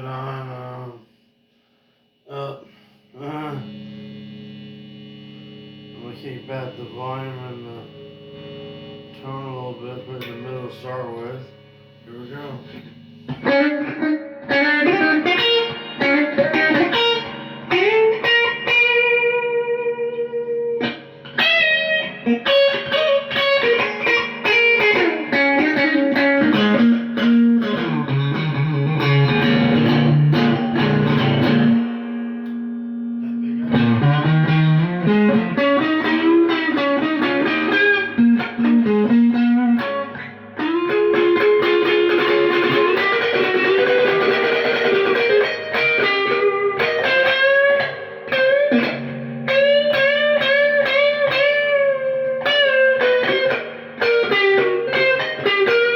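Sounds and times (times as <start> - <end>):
electric guitar licks: 2.0 - 55.9.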